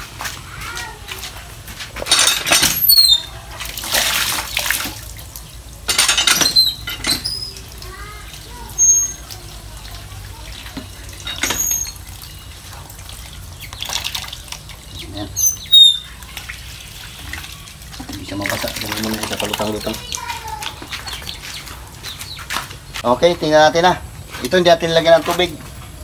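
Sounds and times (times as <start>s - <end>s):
water splashing: 1.1s - 23.0s
water gushing from a hand pump: 1.3s - 22.6s.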